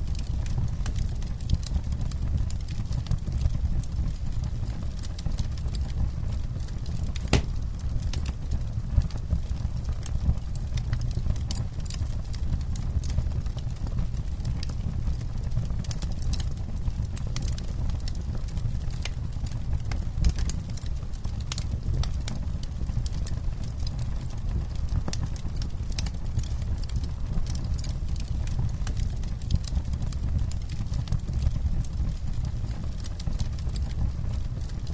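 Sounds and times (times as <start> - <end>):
campfire rumble: 0.0 - 34.9
campfire crackling and popping: 0.1 - 34.9.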